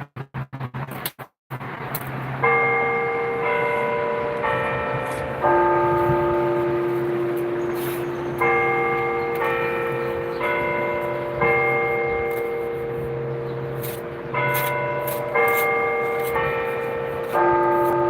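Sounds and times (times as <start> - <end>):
church bells chiming a melody: 2.2 - 18.0.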